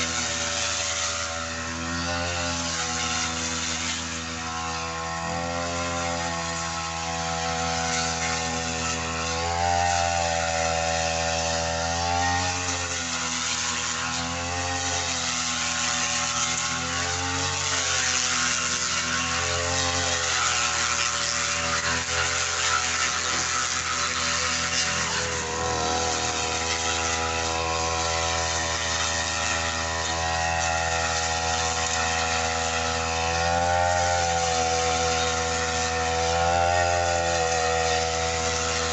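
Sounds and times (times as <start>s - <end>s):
brush cutter engine cutting grass: 0.0s - 38.9s.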